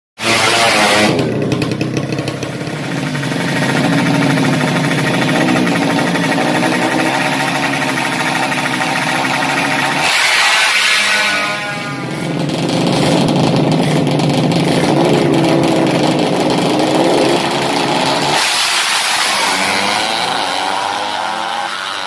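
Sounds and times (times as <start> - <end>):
motorcycle engines revving: 0.2 - 22.0.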